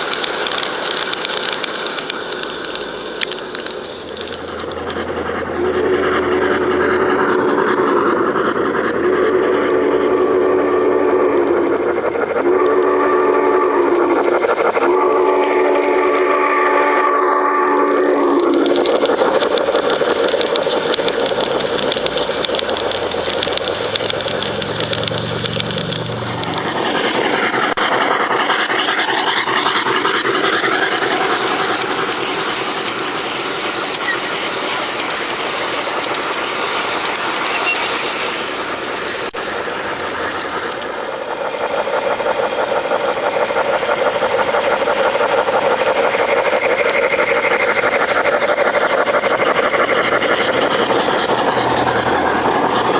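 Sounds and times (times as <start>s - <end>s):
model train wheels clattering: 0.0s - 52.9s.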